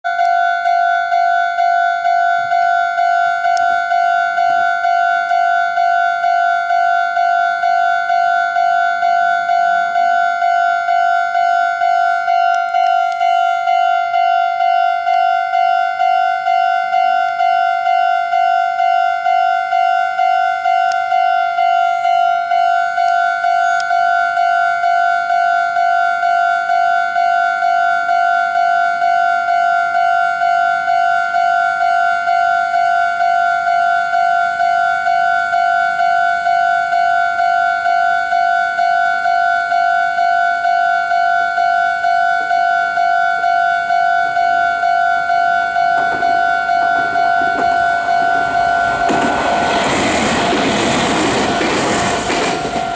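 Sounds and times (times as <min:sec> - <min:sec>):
level crossing warning bell: 0:00.0 - 0:52.9.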